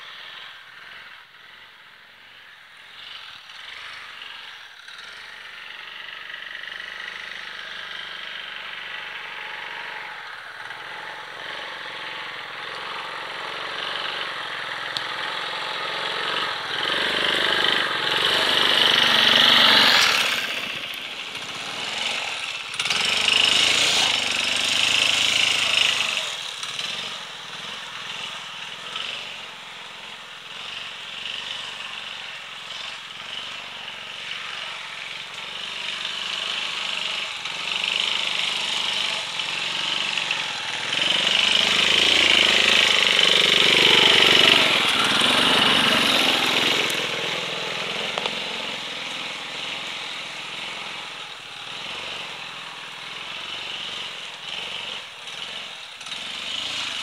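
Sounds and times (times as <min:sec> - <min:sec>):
scooter engine revving: 0:02.9 - 0:57.0.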